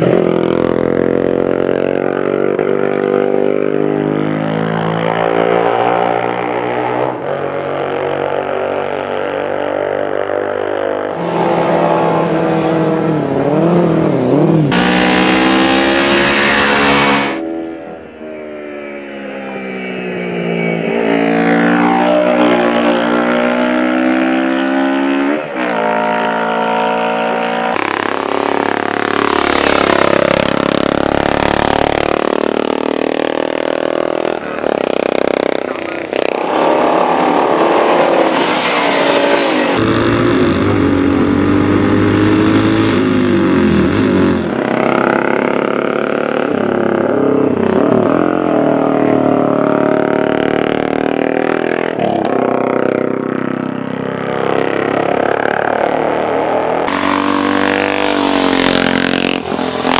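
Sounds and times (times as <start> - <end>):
racing motorcycle engines revving: 0.0 - 59.9.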